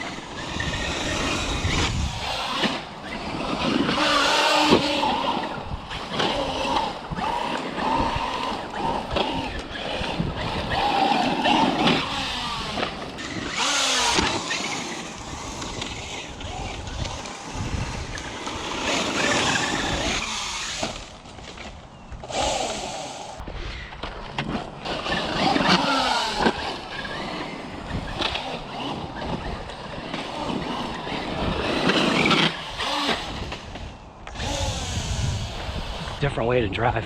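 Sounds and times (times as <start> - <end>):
electric motor whining: 0.0 - 36.3
tyres on dirt: 0.0 - 37.0.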